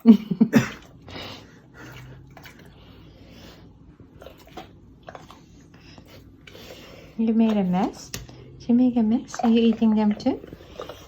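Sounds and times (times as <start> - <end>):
dog chewing: 0.8 - 11.0.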